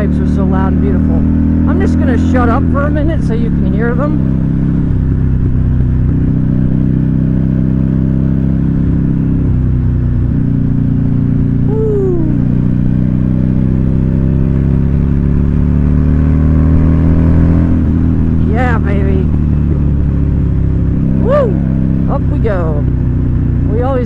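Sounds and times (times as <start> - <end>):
motorcycle engine exhaust while riding: 0.0 - 24.0.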